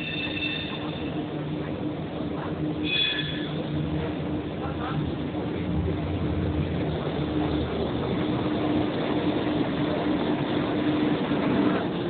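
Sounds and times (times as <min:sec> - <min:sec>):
tram motor hum: 0:00.0 - 0:12.0
tram rolling past: 0:00.0 - 0:12.0.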